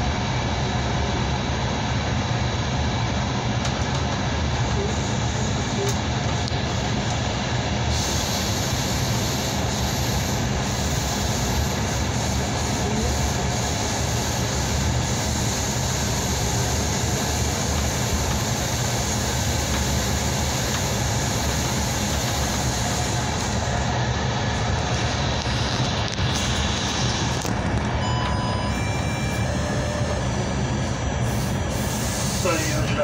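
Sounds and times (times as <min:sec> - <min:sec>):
train running inside carriage: 0:00.0 - 0:33.0.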